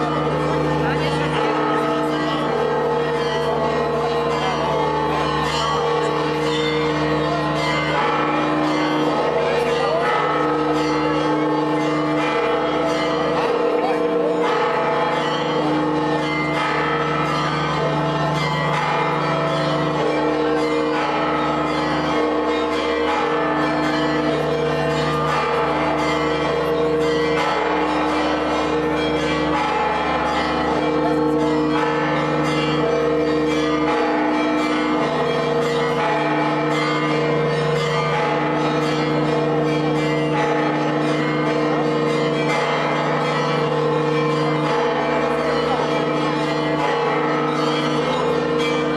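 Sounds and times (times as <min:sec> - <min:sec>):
church bells pealing: 0:00.0 - 0:48.9.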